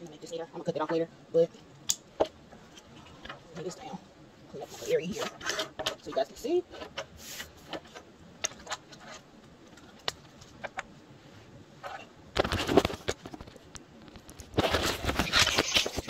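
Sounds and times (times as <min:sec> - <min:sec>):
close rustling and scraping: 0:02.2 - 0:04.0, 0:04.6 - 0:16.0.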